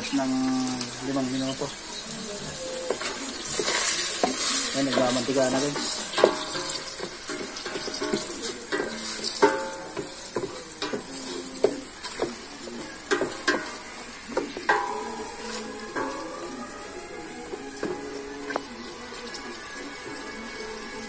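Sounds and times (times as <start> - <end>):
chicken sizzling in hot oil: 0.0 - 21.0
utensil scraping a metal pot: 2.2 - 21.0.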